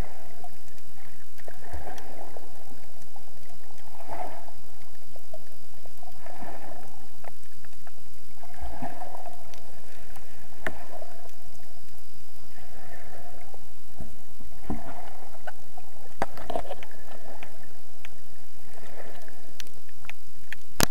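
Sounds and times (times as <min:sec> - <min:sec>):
faint high whine: 0:00.0 - 0:20.9
muffled water swishing: 0:00.0 - 0:20.9.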